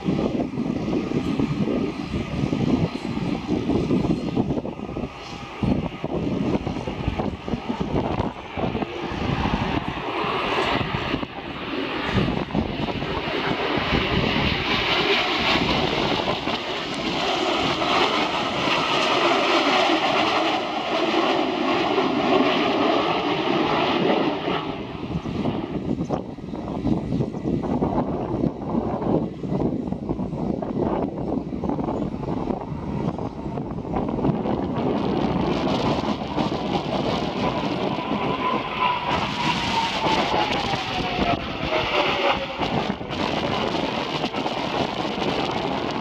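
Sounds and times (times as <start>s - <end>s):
jet planes flying past: 0.0s - 46.0s
wind buffeting microphone: 0.0s - 46.0s.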